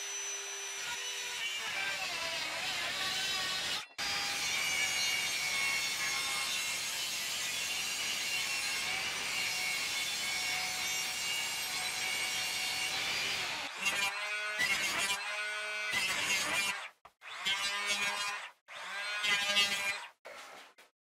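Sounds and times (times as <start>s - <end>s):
table saw cutting wood: 0.0s - 20.8s.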